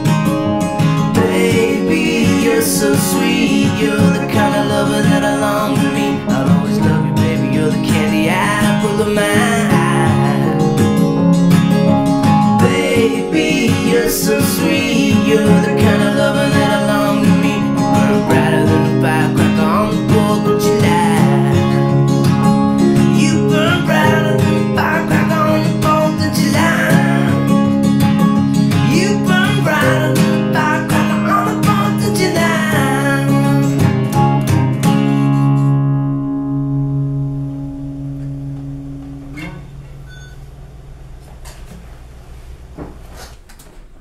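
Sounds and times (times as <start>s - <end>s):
electric piano: 0.0s - 40.3s
acoustic guitar strumming: 0.0s - 41.7s.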